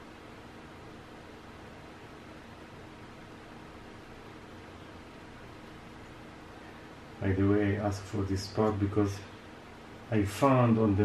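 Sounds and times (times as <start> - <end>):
faint hum: 0.0 - 11.0
room tone hiss: 0.0 - 11.0.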